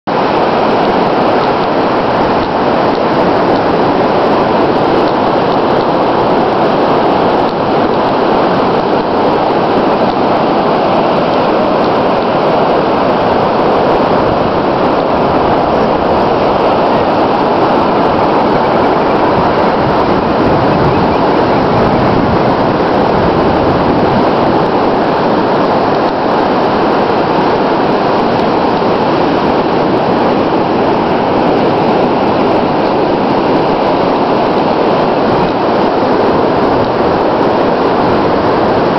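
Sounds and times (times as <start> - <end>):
surf on a beach: 0.0 - 38.9
wind: 0.0 - 38.9.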